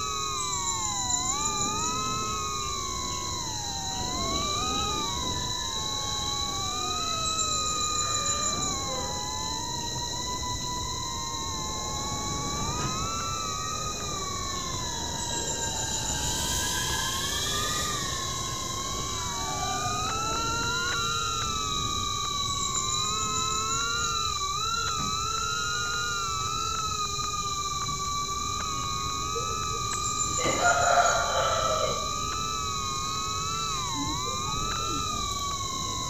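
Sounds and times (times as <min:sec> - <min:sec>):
drone motors whining: 0:00.0 - 0:36.0
steady high tone: 0:00.0 - 0:36.0.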